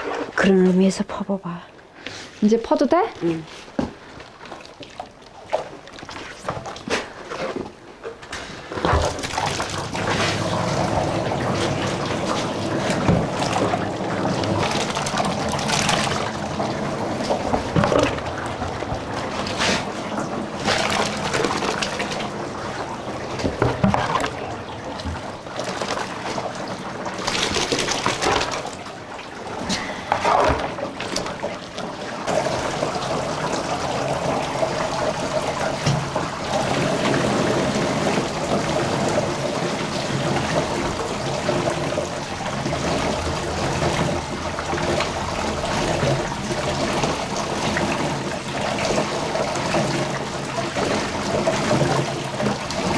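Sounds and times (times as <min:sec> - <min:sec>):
liquid splashing and trickling: 0:02.8 - 0:52.9.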